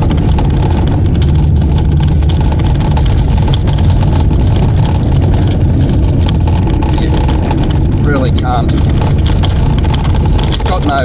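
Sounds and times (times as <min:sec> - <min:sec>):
stones clicking against underside: 0:00.0 - 0:11.0
tyres and engine rumbling: 0:00.0 - 0:11.0.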